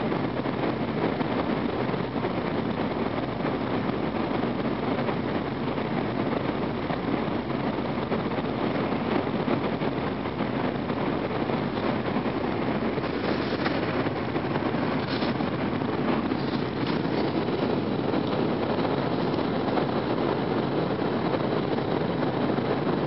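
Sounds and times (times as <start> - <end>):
train running noise in cabin: 0.0 - 23.0.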